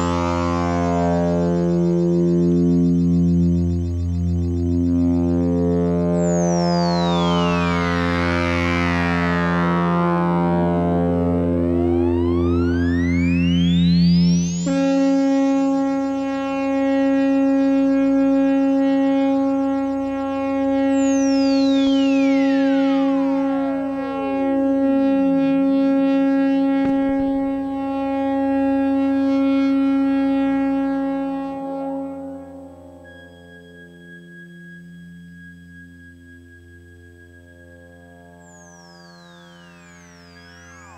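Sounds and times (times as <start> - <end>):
synthesizer tone sweeping: 0.0 - 33.4, 38.3 - 40.9
synthesizer drone: 0.0 - 40.9.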